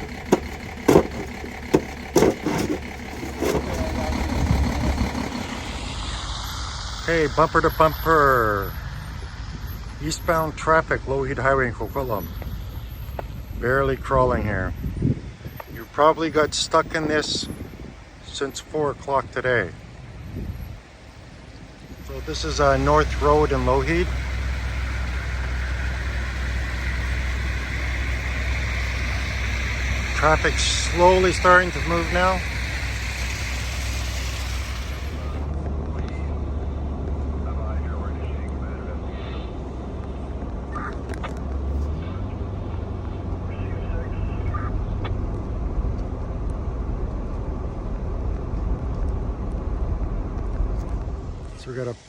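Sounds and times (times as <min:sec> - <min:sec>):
car engines idling in traffic: 0:00.0 - 0:52.0.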